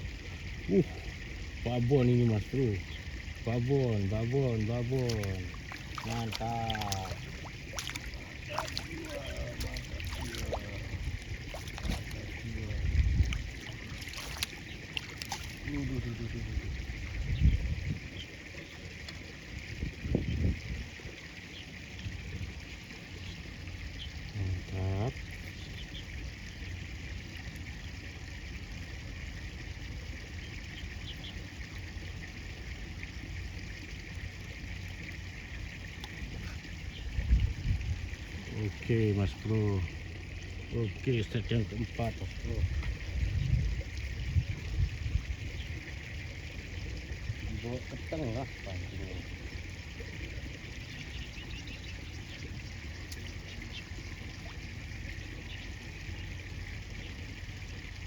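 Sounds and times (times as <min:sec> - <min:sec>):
river water sloshing and trickling: 0:00.0 - 0:58.0.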